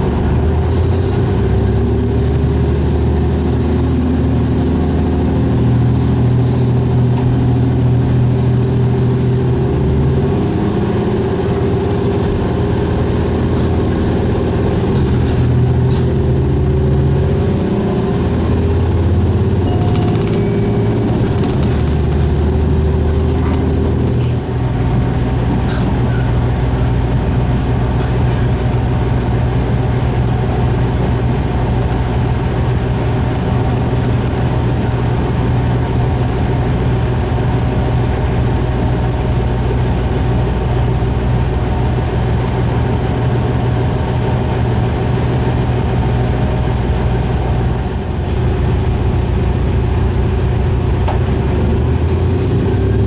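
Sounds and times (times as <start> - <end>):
railcar diesel engine running: 0.0 - 53.0.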